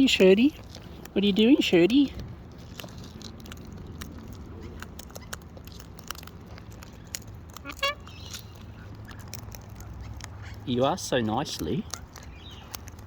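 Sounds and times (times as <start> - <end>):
parrots cracking seeds: 0.0 - 13.0.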